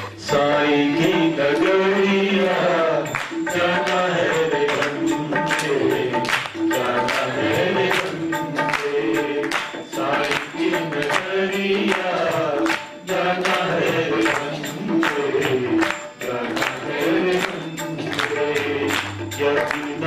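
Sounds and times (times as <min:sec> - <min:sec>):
group singing devotional song: 0:00.0 - 0:20.0
harmonium: 0:00.0 - 0:20.0
tabla drumming: 0:00.0 - 0:20.0
hand clapping: 0:03.0 - 0:20.0.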